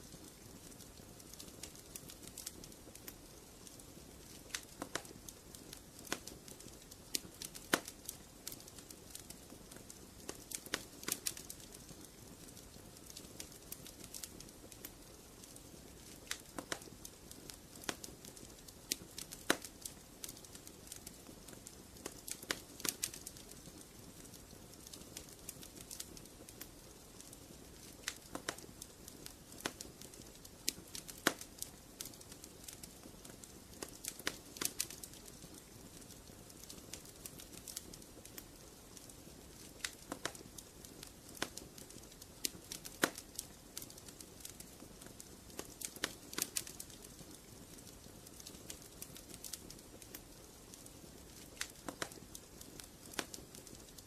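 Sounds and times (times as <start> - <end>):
soft rush of flame: 0.0 - 54.0
wood fire crackling: 0.0 - 54.0.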